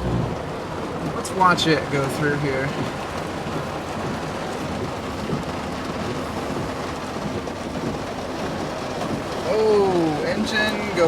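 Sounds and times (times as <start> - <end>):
heavy rain on a truck: 0.0 - 11.0.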